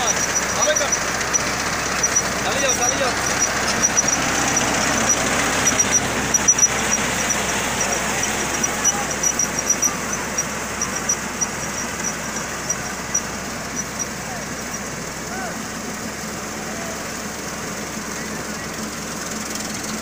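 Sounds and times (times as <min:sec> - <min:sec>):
combine harvester running: 0:00.0 - 0:20.0
fast high ticking: 0:00.0 - 0:20.0.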